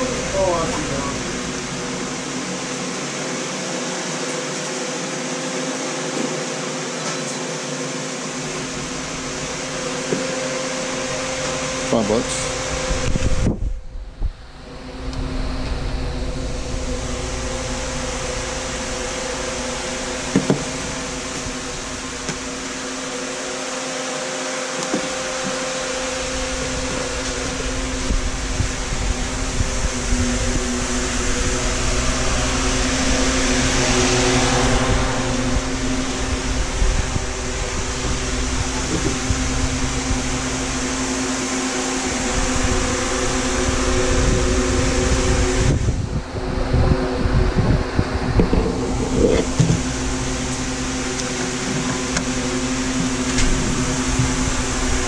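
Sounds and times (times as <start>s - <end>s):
electric fan whirring: 0.0s - 55.0s.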